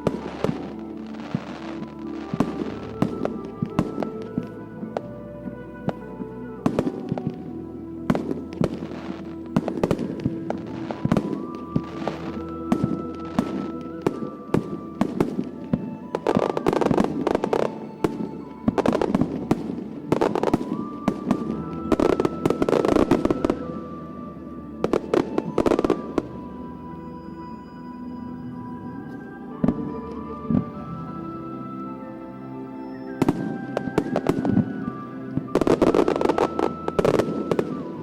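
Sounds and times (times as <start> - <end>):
fireworks bursting: 0.0 - 26.7, 32.8 - 38.0
music with long held notes: 0.0 - 38.0.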